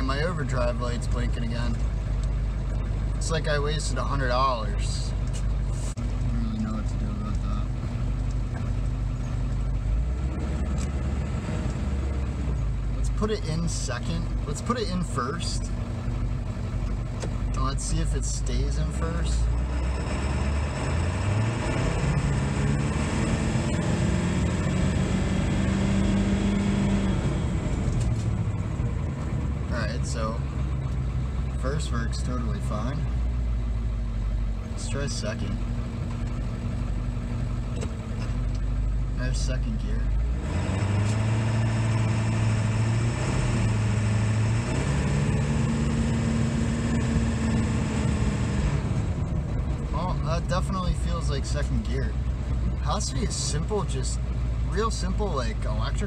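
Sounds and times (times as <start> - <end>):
engine revving from inside cab: 0.0 - 56.0.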